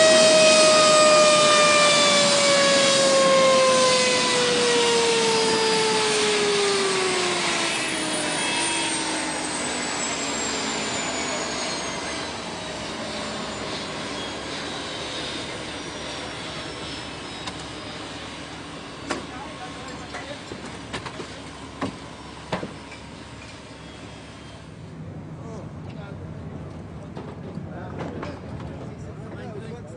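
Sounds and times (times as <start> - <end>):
helicopter turbine spooling down: 0.0 - 25.1.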